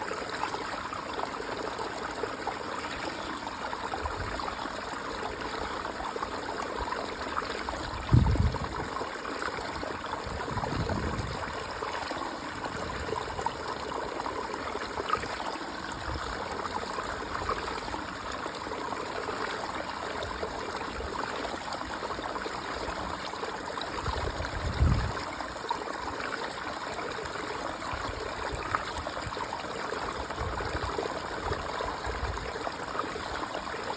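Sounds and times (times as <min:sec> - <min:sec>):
water trickling stream: 0:00.0 - 0:33.9.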